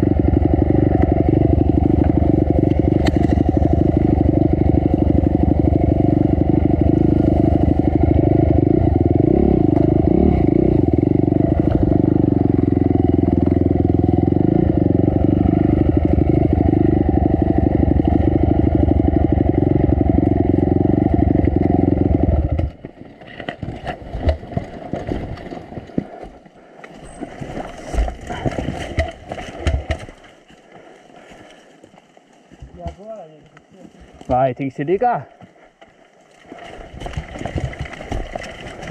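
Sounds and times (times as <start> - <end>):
dirt bike engine running: 0.0 - 23.1, 23.8 - 30.2, 37.0 - 38.9.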